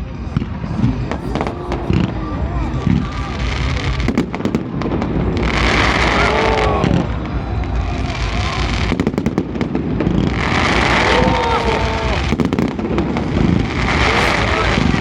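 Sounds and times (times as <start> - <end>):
fireworks bangs: 0.0 - 15.0
fireworks crackles: 0.0 - 15.0.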